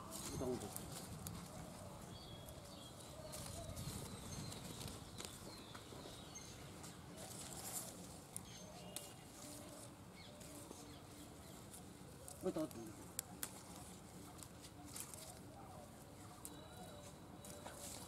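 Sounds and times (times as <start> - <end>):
leaves rustling and crackling: 0.0 - 18.0.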